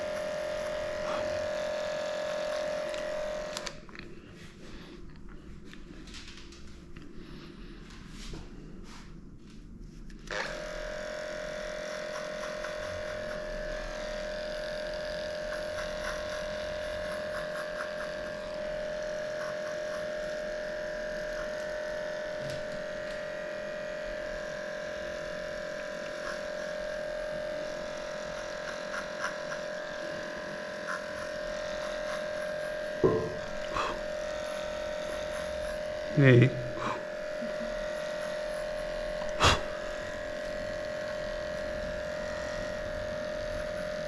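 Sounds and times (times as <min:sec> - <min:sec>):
electric clipper humming: 0:00.0 - 0:04.0, 0:10.1 - 0:44.0.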